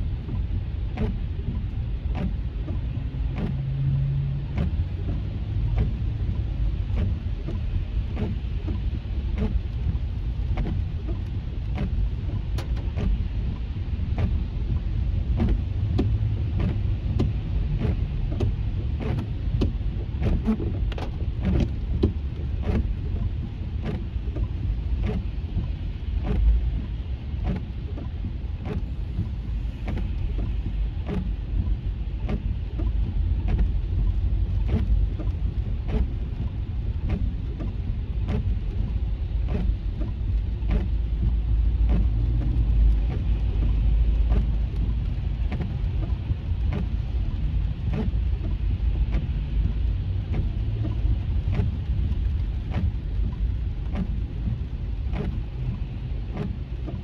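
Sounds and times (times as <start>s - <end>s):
car road and engine rumble: 0.0s - 57.0s
rain hissing on car: 0.0s - 57.0s
windshield wiper ticks: 0.0s - 57.0s.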